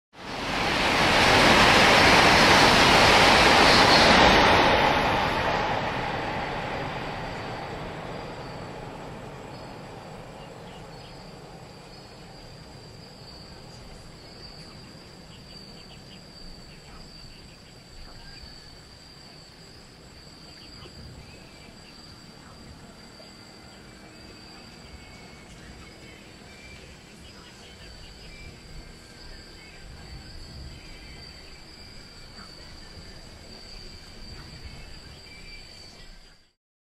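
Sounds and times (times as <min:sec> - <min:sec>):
high-speed train passing: 0:00.1 - 0:36.6.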